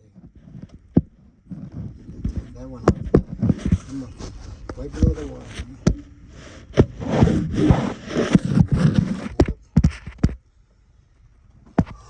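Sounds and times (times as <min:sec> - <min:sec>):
scraping and rustling: 0:00.0 - 0:10.4
sharp clicks and knocks: 0:00.0 - 0:10.5.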